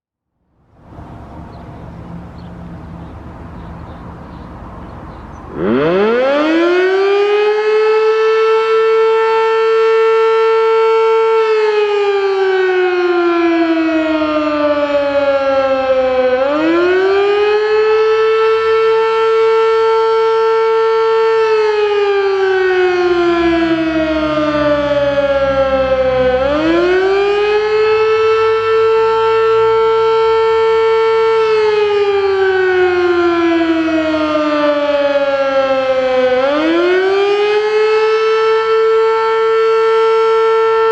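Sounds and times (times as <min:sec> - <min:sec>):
electromechanical siren wailing: 0:05.4 - 0:40.9.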